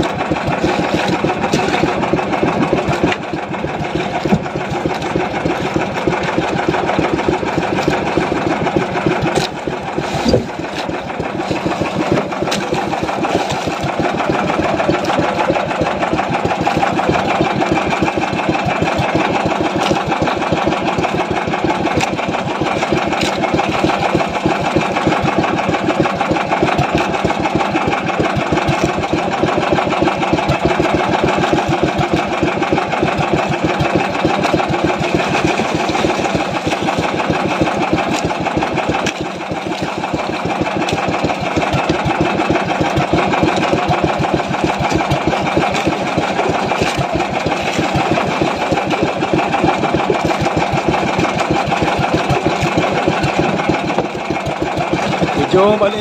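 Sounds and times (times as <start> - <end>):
small boat engine running: 0.0 - 56.0.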